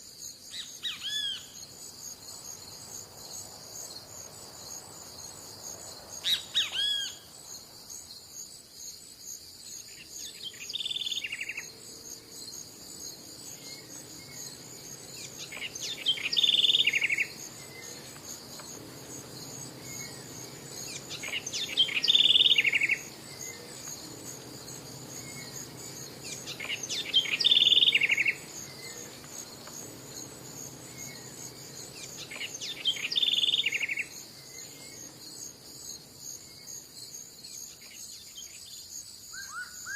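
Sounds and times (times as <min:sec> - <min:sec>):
insects chirring: 0:00.0 - 0:39.9
songbird singing: 0:00.3 - 0:39.9.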